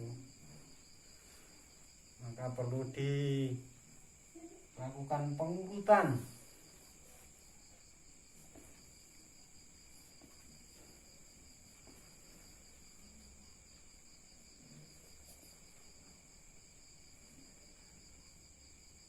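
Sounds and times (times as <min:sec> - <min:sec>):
faint high-pitched whine: 0:00.0 - 0:19.0.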